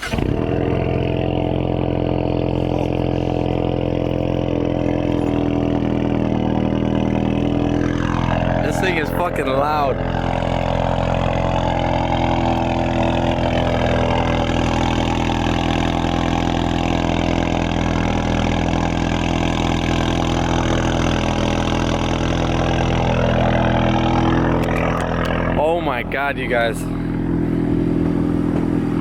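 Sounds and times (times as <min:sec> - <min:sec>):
loud car engine idling: 0:00.0 - 0:29.0.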